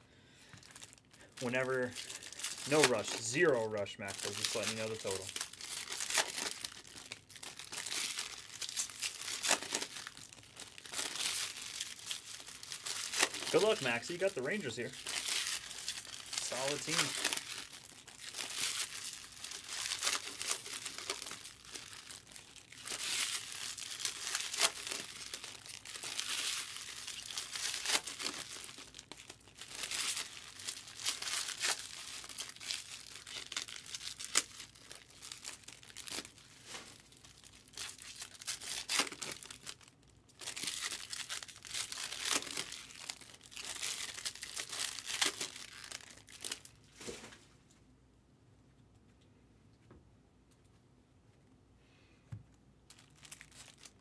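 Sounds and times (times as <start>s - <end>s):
foil wrappers crinkling and tearing: 0.4s - 46.8s, 52.9s - 54.0s.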